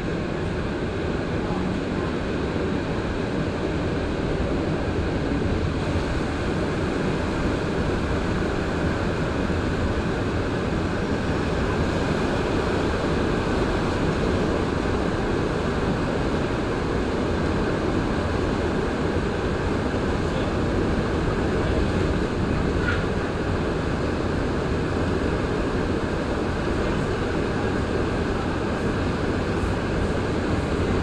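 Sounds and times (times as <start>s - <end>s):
train rumble from inside: 0.0s - 31.0s.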